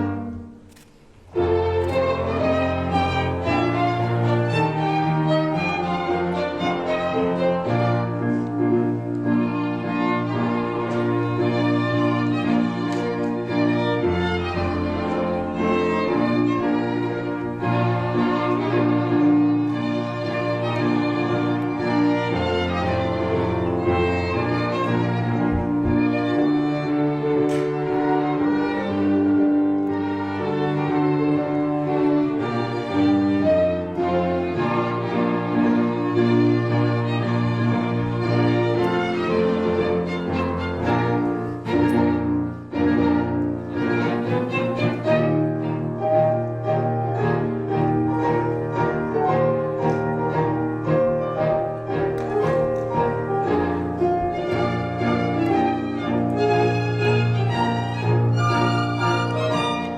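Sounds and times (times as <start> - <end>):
piano: 0.0 - 59.9
string ensemble playing anthem: 0.0 - 59.9.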